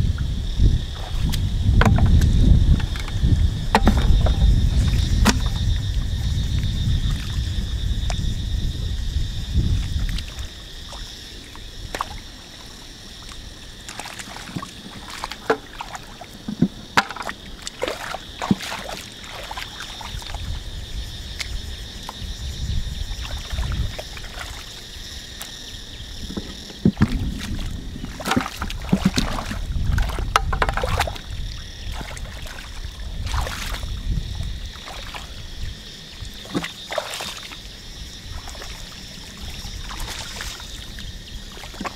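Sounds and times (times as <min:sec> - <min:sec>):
muddy water sloshing and splashing: 0:00.0 - 0:41.9.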